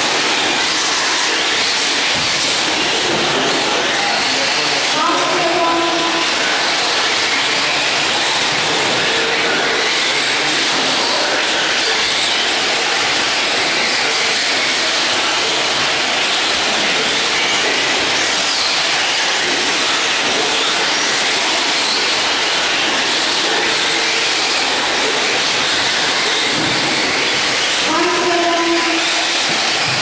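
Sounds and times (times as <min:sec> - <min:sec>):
radio-controlled trucks whirring: 0:00.0 - 0:30.0.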